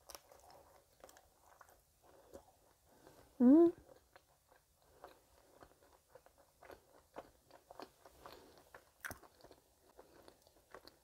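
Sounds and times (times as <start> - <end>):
person chewing bread: 0.0 - 11.0.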